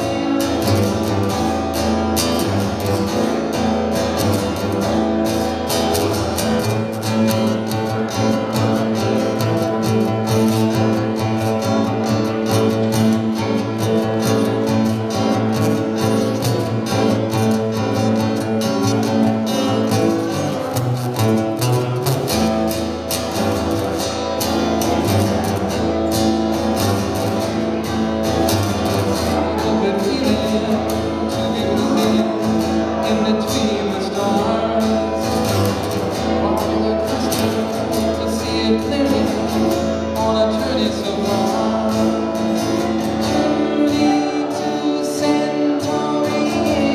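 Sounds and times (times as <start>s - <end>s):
amplified acoustic guitar: 0.0s - 46.9s.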